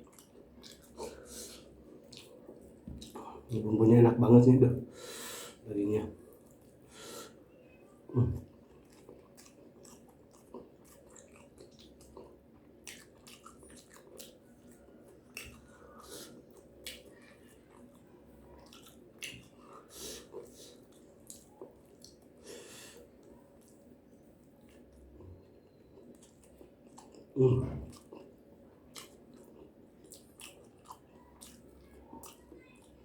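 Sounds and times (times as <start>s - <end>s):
chewing and biting food: 0.0s - 3.2s, 8.5s - 22.4s, 23.0s - 33.0s.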